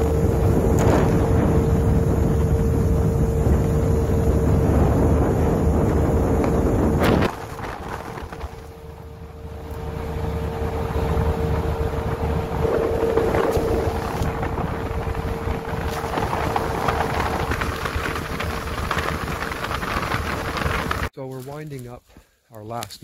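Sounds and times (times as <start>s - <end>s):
motorboat engine running: 0.0s - 21.1s
wind buffeting microphone: 0.0s - 21.1s.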